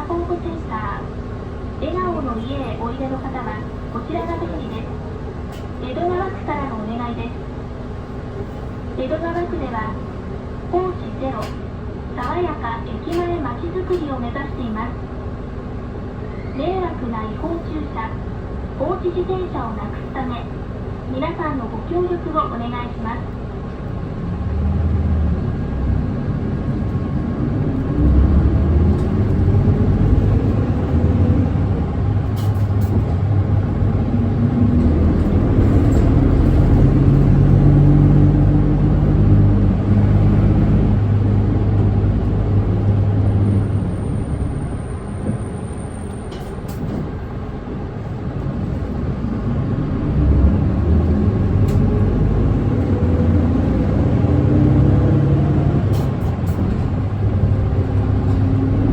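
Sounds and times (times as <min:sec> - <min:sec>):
bus diesel engine: 0:00.0 - 0:58.9.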